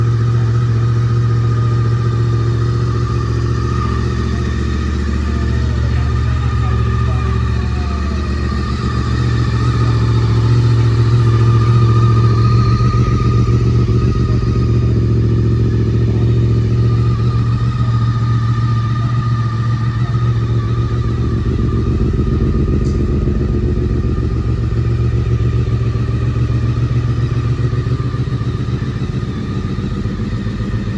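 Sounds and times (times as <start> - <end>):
motorcycle engine running steadily: 0.0 - 30.9.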